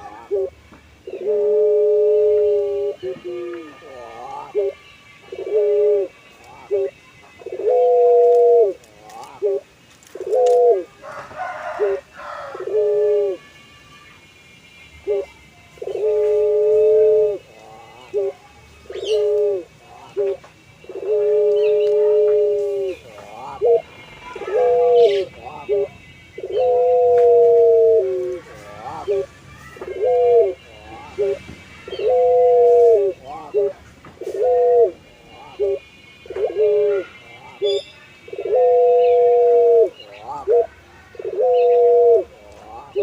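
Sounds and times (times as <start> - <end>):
dove cooing: 0.0 - 13.4, 15.0 - 43.0.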